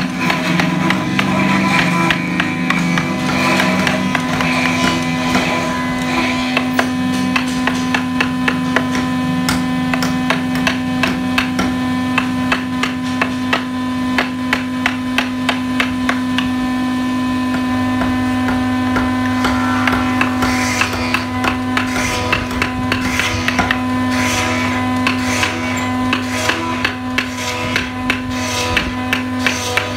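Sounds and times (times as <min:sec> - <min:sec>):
steady hum: 0:00.0 - 0:29.9.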